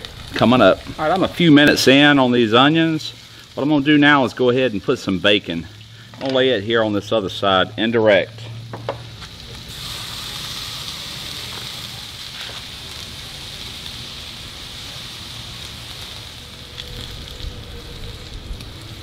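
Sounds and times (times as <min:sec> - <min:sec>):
onions sizzling in a pan: 0:00.0 - 0:07.4, 0:08.5 - 0:19.0.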